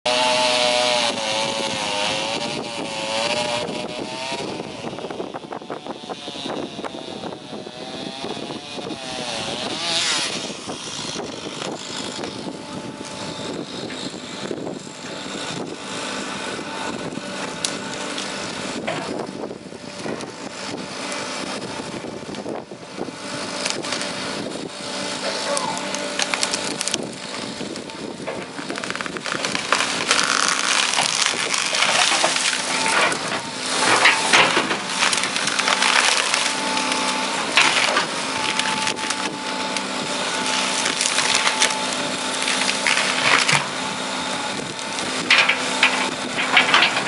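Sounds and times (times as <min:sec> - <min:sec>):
tree wood cracking: 0:00.1 - 0:22.6, 0:23.3 - 0:47.0
excavator engine and hydraulics: 0:00.1 - 0:47.0.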